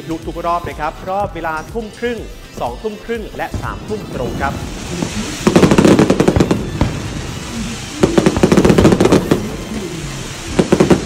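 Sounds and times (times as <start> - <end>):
fireworks crackling pops: 0.0 - 11.0.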